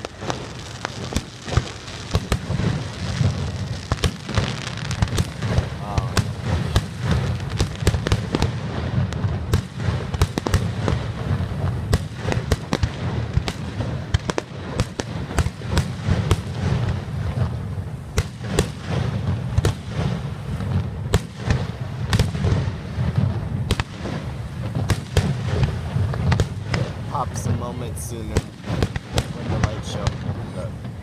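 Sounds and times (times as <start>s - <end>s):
continuous low rumble: 0.0s - 31.0s
fireworks bangs and crackling: 0.0s - 31.0s.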